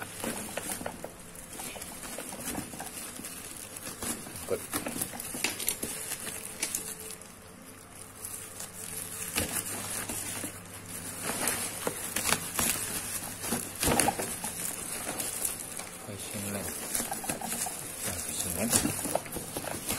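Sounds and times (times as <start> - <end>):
bubble wrap rustling and crackling: 0.0 - 19.9.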